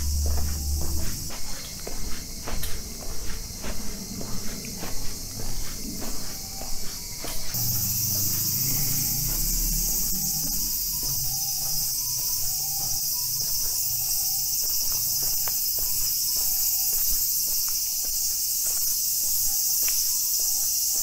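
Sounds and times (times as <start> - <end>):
footsteps on pavement: 0.0 - 21.0
insect chorus: 0.0 - 21.0.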